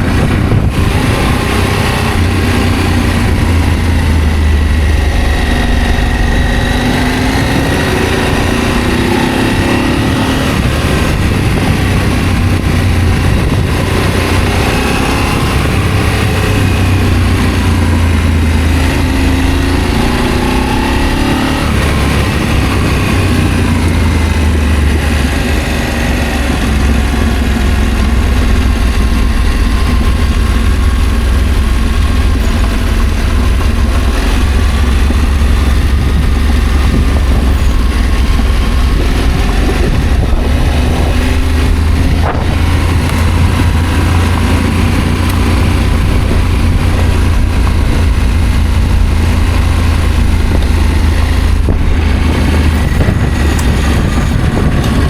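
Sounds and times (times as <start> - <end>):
motorcycle engine revving: 0.0 - 55.0
steady rush of noise: 0.0 - 55.0.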